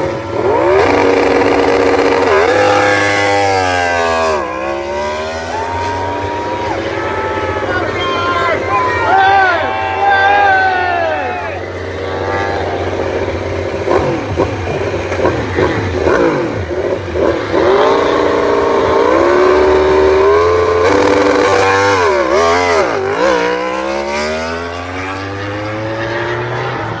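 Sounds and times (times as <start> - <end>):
motorcycle engine accelerating away: 0.0 - 7.7, 10.1 - 27.0
racing motorcycles passing: 0.0 - 27.0.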